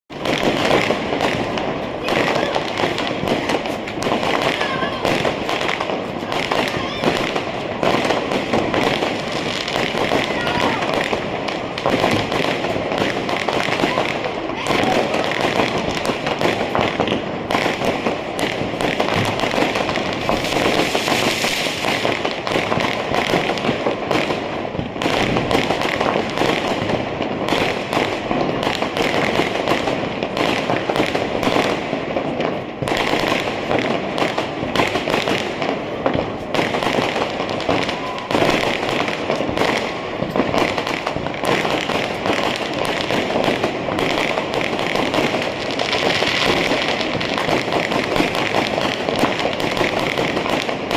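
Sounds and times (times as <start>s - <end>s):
firecrackers crackling: 0.1s - 50.9s.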